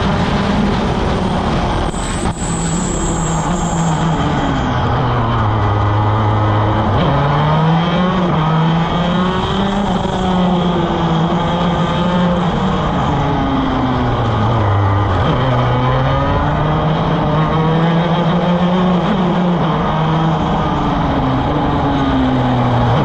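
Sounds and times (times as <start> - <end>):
kart engine racing: 0.0 - 23.0.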